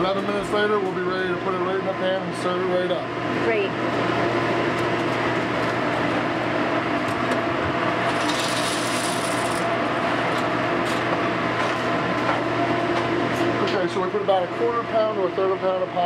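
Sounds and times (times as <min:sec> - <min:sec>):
ventilation whirring: 0:00.0 - 0:16.0.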